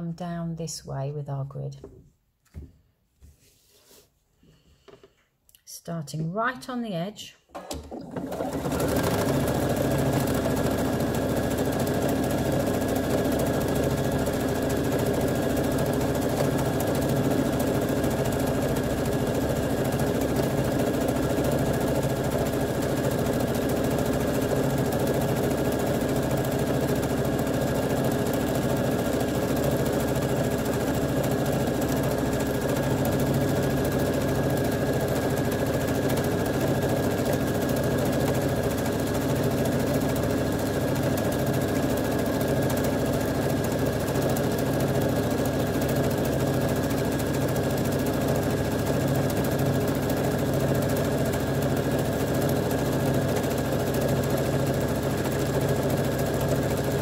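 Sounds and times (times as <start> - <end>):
electric sewing machine running: 7.6 - 57.0.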